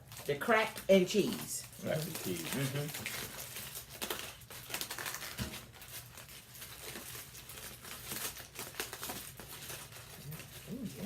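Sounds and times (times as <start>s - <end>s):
food containers crinkling: 0.0s - 11.0s.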